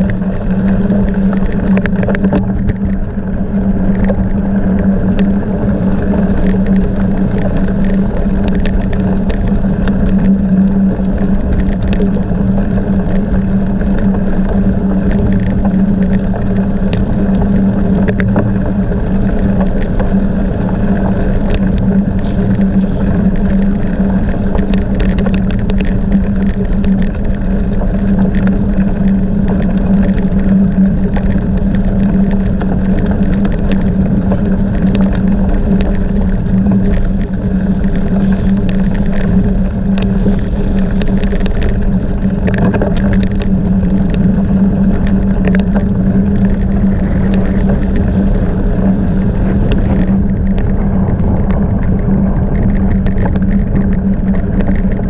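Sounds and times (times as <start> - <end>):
bicycle tyres rolling: 0.0 - 55.0
light ticks and clicks: 0.0 - 55.0
low hum: 0.0 - 55.0
wind noise: 0.0 - 55.0.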